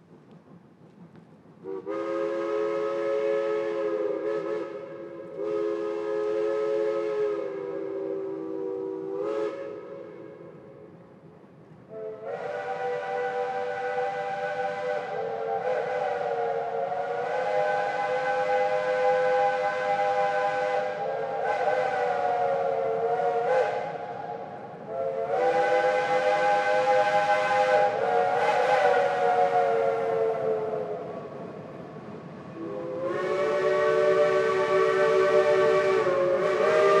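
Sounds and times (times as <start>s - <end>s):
steam locomotive chime whistle: 1.6s - 10.6s, 11.9s - 31.3s, 32.5s - 37.0s.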